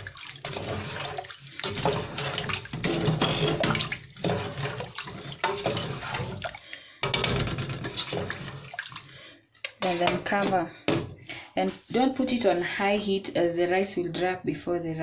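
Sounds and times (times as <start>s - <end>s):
spoon stirring water in pot: 0.0s - 12.6s.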